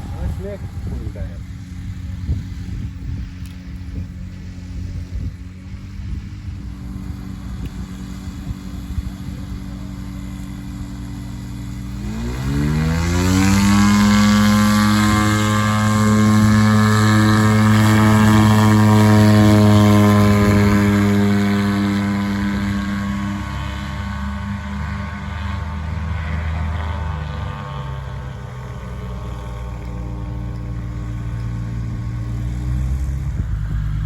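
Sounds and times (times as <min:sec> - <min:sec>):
light aircraft propeller engine: 0:00.0 - 0:34.0.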